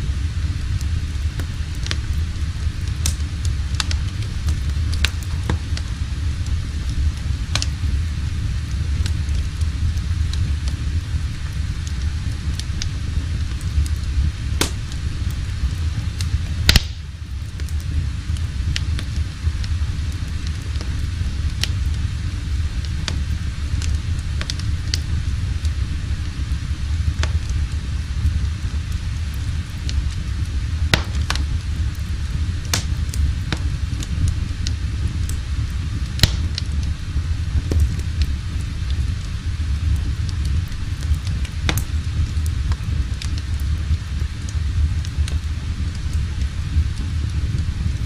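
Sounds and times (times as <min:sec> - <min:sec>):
loud fire snaps: 0:00.0 - 0:48.0
wood fire crackling: 0:00.0 - 0:48.0.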